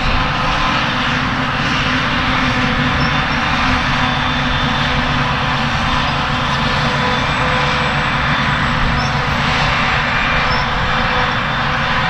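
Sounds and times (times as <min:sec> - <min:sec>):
forage harvester droning: 0:00.0 - 0:12.0.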